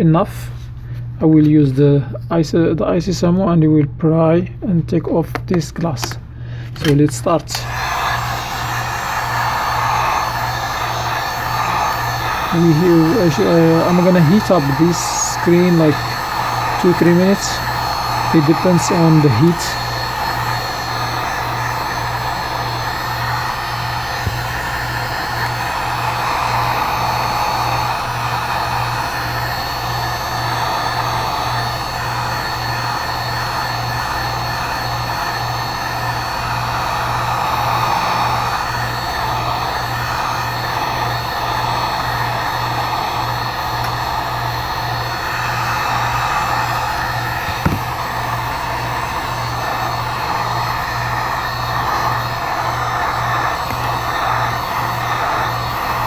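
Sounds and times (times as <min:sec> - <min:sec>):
heat gun fan humming: 0:00.0 - 0:56.0.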